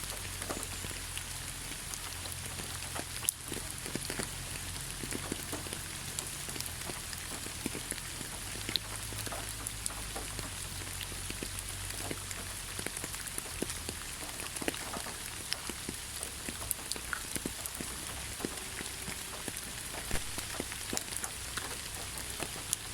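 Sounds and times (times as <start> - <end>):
rain hiss: 0.0 - 22.9
raindrops pattering on leaves: 0.0 - 22.9.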